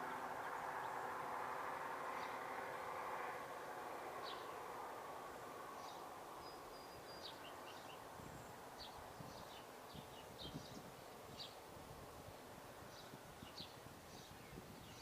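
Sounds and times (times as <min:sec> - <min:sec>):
soft outdoor background rush: 0:00.0 - 0:15.0
small birds chirping: 0:02.1 - 0:15.0.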